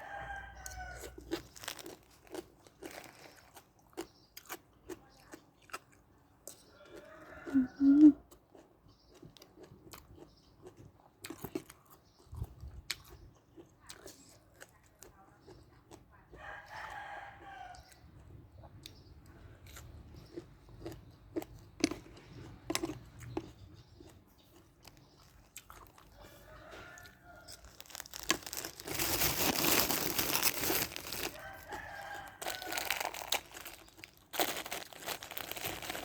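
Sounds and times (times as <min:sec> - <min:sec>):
chewing and crunching food: 0:00.0 - 0:36.0.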